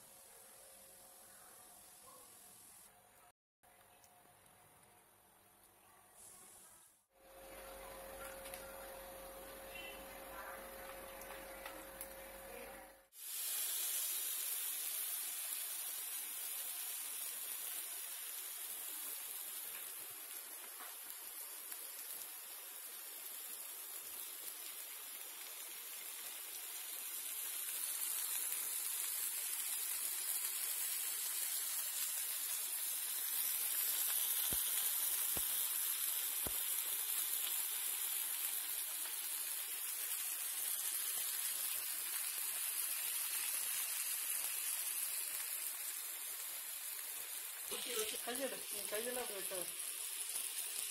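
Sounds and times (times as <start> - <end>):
fish sizzling in oil: 7.2 - 50.9.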